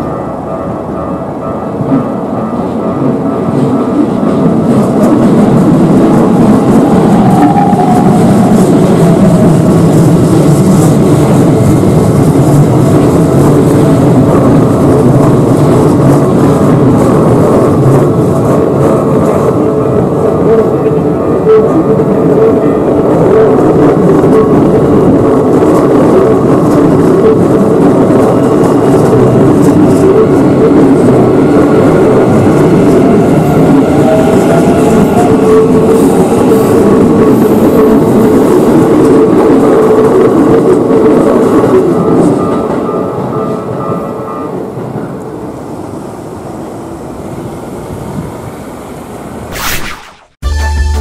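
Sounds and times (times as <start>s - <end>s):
electric train passing: 0.0s - 49.5s.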